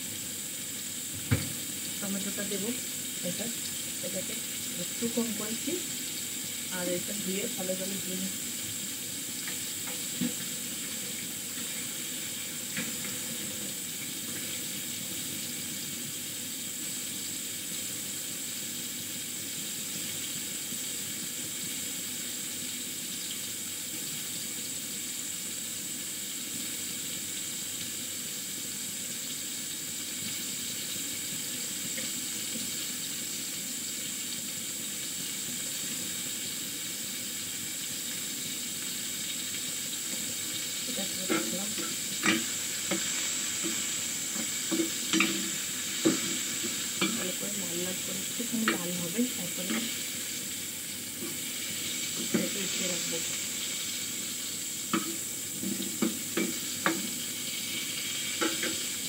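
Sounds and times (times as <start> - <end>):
kitchen tap running: 0.0 - 25.6, 28.9 - 59.0.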